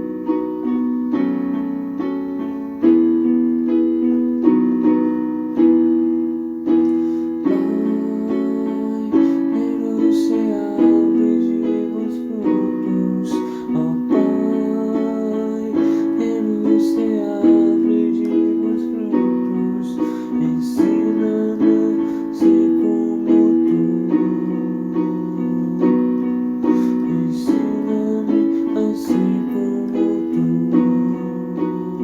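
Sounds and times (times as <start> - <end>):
piano chords: 0.0 - 32.0.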